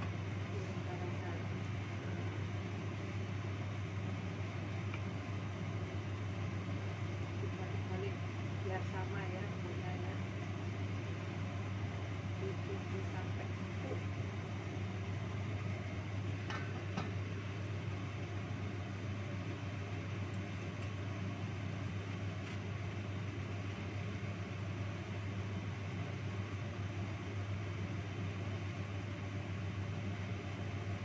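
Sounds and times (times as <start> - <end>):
broth simmering: 0.0 - 31.0.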